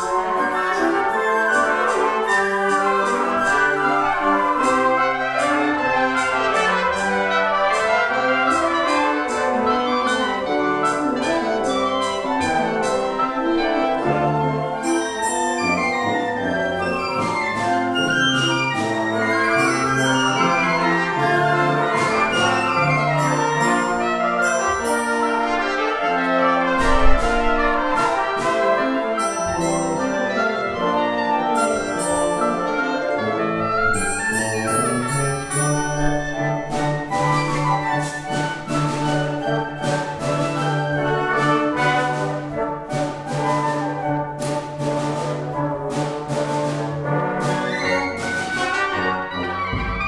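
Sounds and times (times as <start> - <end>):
concert band playing: 0.0 - 50.0.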